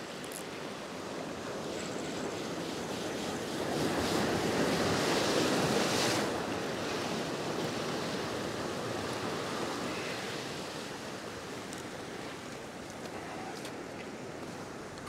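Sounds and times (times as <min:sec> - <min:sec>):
foaming water washing over rocks: 0:00.0 - 0:14.4
waves crashing on rocks: 0:00.1 - 0:14.6.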